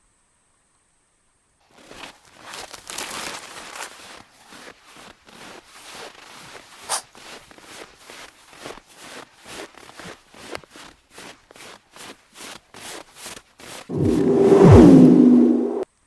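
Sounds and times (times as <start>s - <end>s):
footsteps crunching through snow: 1.7s - 15.8s.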